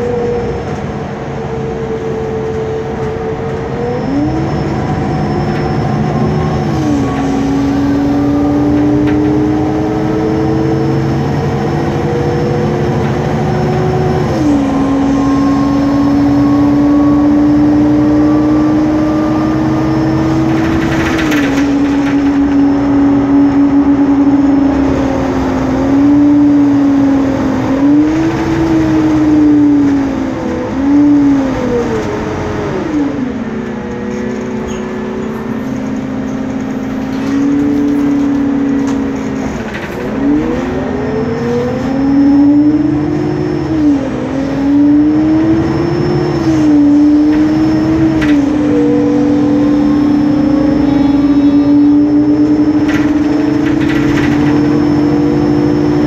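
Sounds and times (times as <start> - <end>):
engine cooling fan whining: 0.0 - 56.0
low rumble of bus: 0.0 - 56.0.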